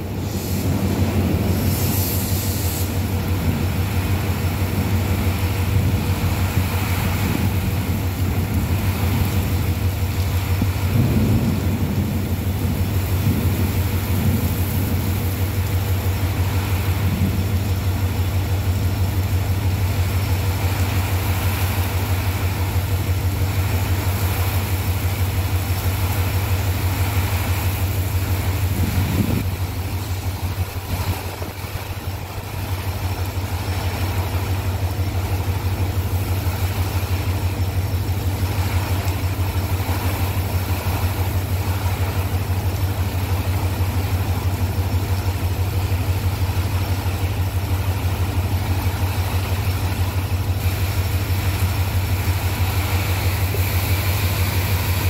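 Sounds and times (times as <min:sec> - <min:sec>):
engine idling: 0:00.0 - 0:55.0
heavy rain hissing: 0:00.0 - 0:55.0.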